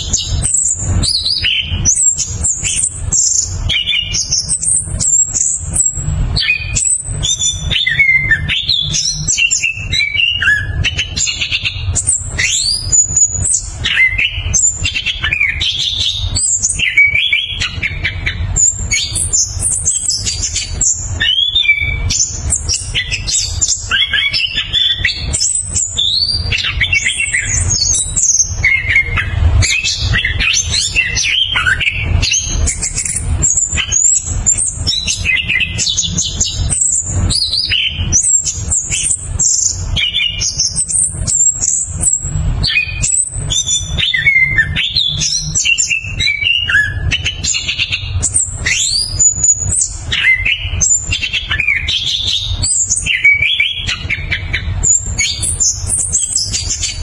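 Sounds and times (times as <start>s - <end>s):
thrush singing whistles and trills: 0.0s - 57.0s.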